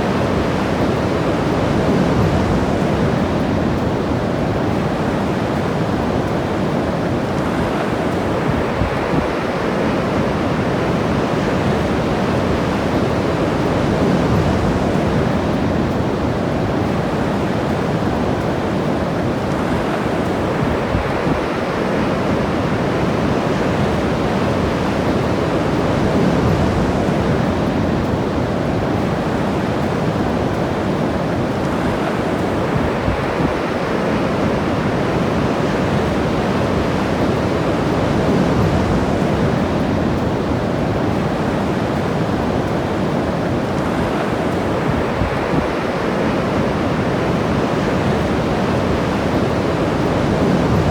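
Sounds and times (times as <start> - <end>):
ocean surf breaking on beach: 0.0 - 50.9.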